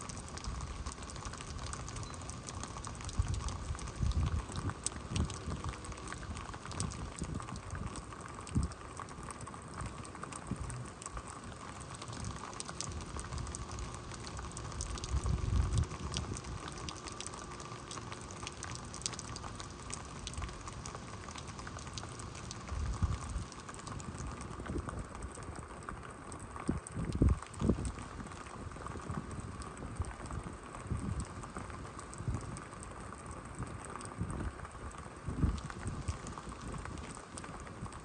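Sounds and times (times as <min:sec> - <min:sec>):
rain falling: 0:00.0 - 0:38.0.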